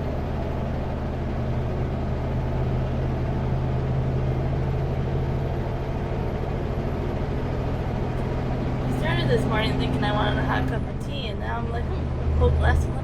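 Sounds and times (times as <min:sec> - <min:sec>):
road noise: 0:00.0 - 0:13.0
truck diesel engine droning: 0:00.0 - 0:13.0.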